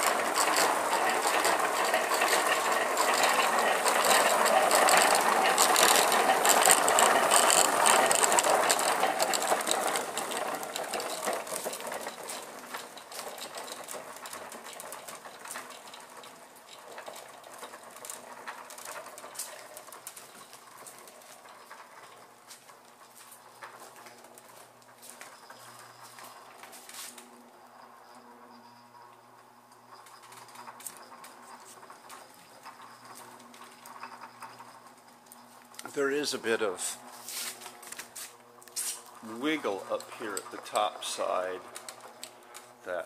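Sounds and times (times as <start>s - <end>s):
bicycle chain clattering over sprockets: 0.0s - 27.0s, 29.8s - 37.0s, 38.8s - 43.0s.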